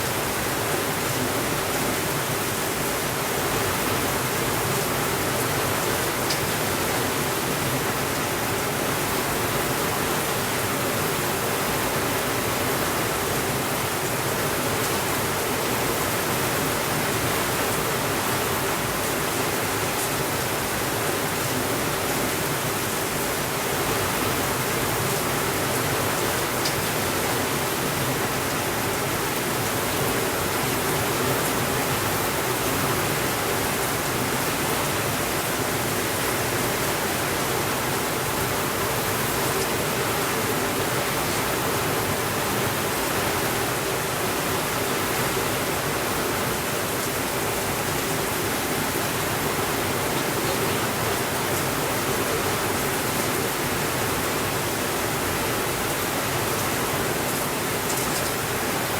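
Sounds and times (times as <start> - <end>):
steady rainfall hiss: 0.0 - 58.9.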